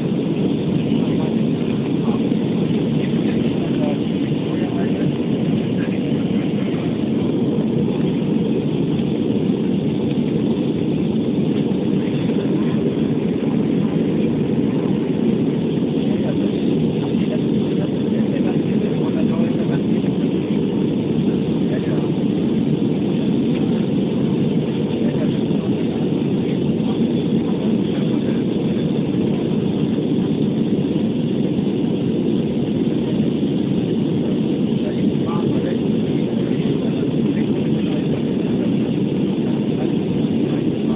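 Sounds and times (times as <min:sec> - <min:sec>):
airplane cabin engine and airflow rush: 0:00.0 - 0:40.9.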